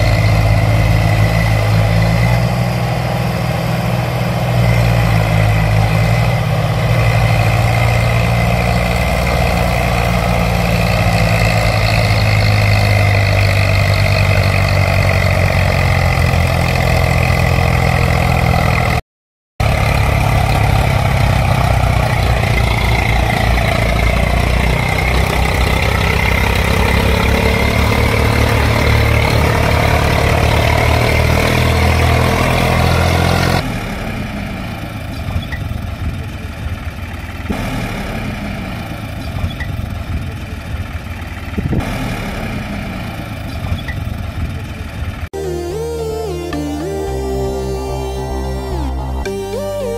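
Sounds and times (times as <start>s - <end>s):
tractor engine running: 0.0s - 19.0s, 19.6s - 49.9s.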